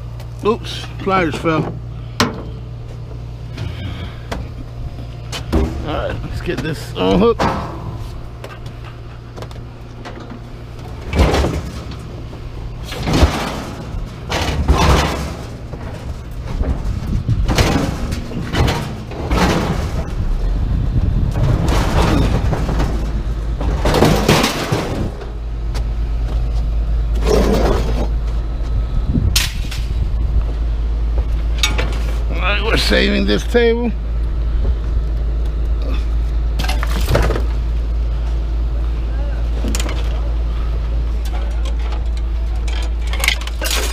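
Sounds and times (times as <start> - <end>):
scrap metal clanking and crashing: 0.4 - 26.4, 27.1 - 28.4, 29.4 - 30.2, 31.3 - 33.9, 35.9 - 37.8, 39.6 - 43.9.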